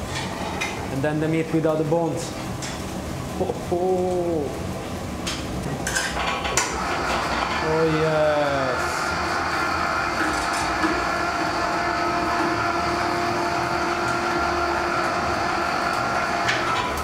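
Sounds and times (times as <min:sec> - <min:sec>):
electric hoist motor humming: 0:00.8 - 0:17.0.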